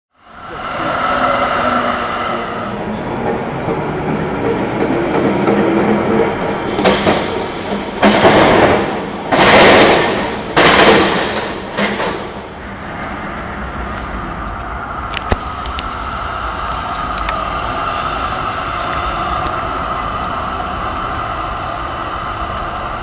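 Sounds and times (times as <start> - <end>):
city traffic noise: 0.1 - 23.0
tram motor hum: 0.2 - 23.0
steel wheels rattling on rails: 0.4 - 13.2, 13.8 - 23.0.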